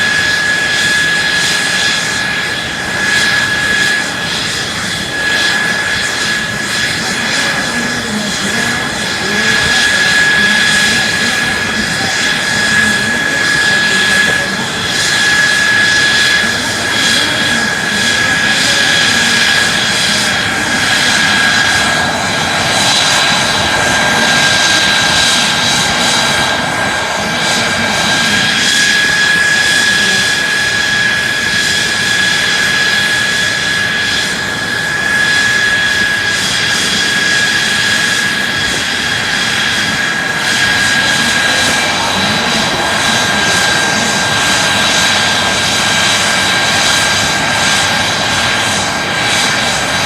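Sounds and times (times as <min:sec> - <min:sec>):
high-pitched engine whine: 0:00.0 - 0:50.0
jet engine roaring: 0:00.0 - 0:50.0.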